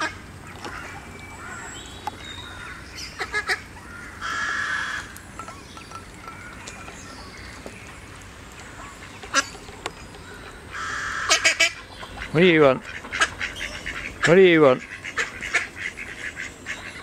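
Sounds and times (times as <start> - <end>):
ducks calling: 0.0 - 17.0.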